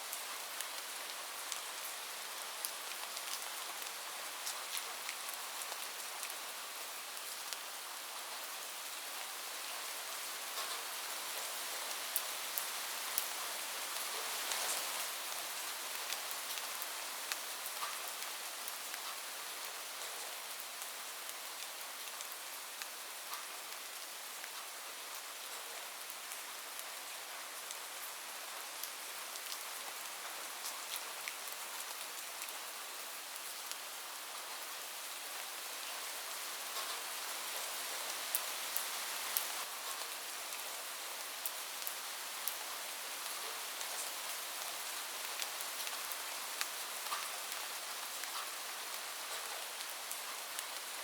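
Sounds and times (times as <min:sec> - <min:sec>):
rain falling on a roof: 0:00.0 - 0:51.0.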